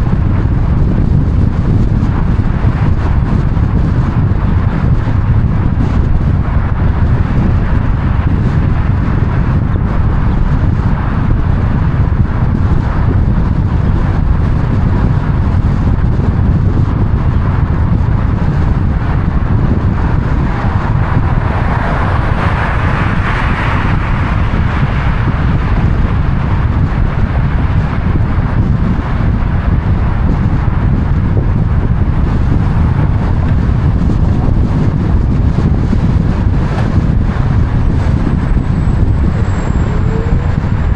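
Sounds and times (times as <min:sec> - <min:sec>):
vehicle rumble on road: 0:00.0 - 0:40.9
wind buffeting microphone: 0:00.0 - 0:40.9.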